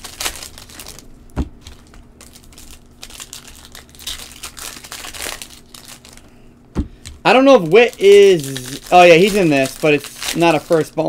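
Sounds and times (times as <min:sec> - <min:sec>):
foil wrapper crinkling: 0:00.0 - 0:06.4, 0:07.0 - 0:11.0.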